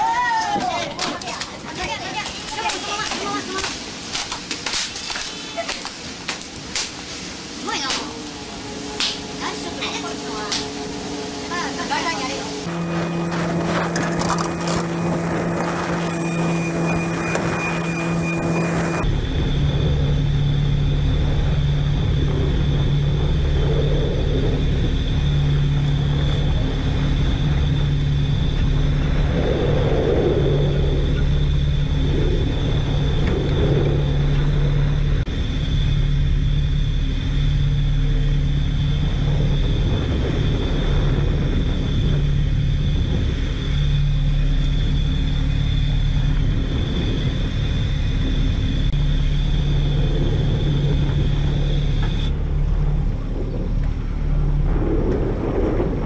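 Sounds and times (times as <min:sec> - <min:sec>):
boat engine rumble: 0:00.0 - 0:56.0
steady high whine: 0:06.9 - 0:56.0
low hum: 0:07.0 - 0:56.0.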